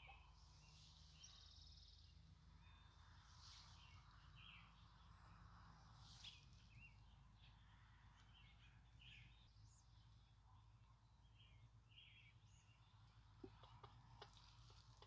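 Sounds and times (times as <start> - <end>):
low steady background rumble: 0.0 - 15.0
small birds chirping: 0.0 - 15.0.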